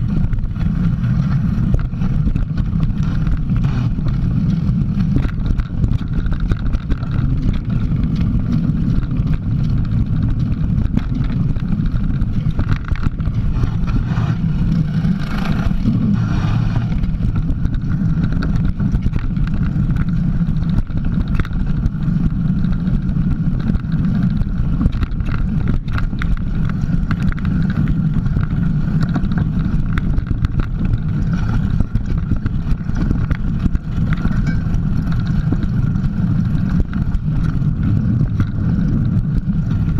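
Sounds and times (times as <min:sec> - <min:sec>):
bike knocks and rattles: 0:00.0 - 0:39.9
tyre and trail rumble: 0:00.0 - 0:39.9
wind on microphone: 0:00.0 - 0:39.9.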